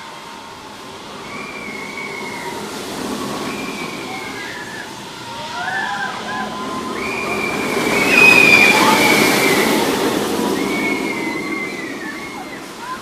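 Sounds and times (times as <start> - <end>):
high-pitched squeals: 0.0 - 13.0
roller coaster rumbling on track: 0.0 - 13.0.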